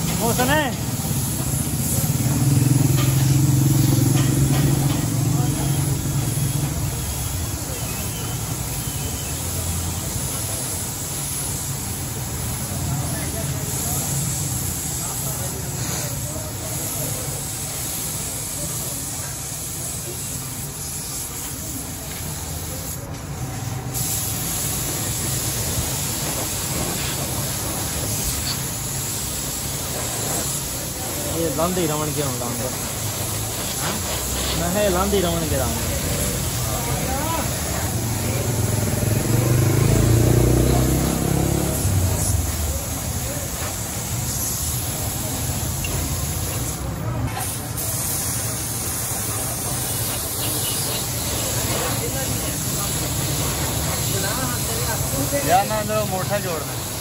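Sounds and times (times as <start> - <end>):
paint spray gun hissing: 0.0 - 57.0.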